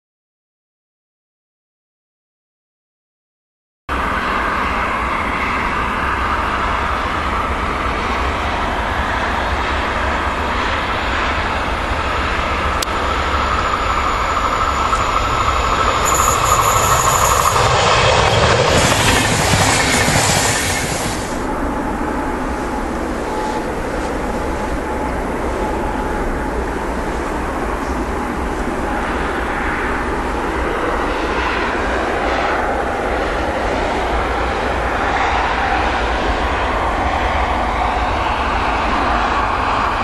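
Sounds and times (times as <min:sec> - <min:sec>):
train wheels rolling on rail: 0:04.0 - 0:40.0.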